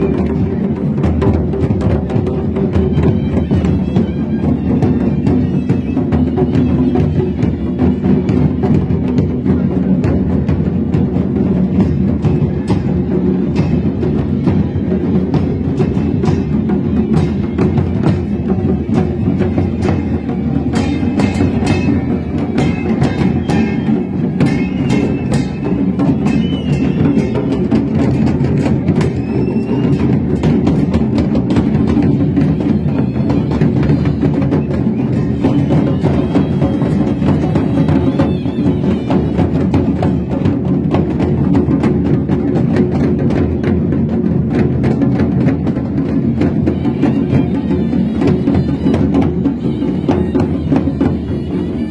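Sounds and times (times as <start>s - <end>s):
dense continuous drumming: 0.0s - 51.9s.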